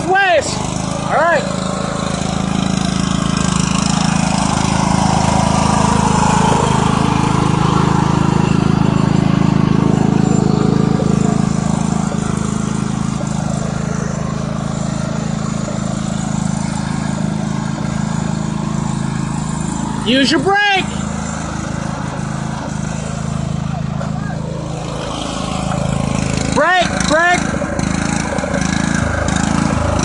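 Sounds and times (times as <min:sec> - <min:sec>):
small tractor engine running: 0:00.0 - 0:30.0.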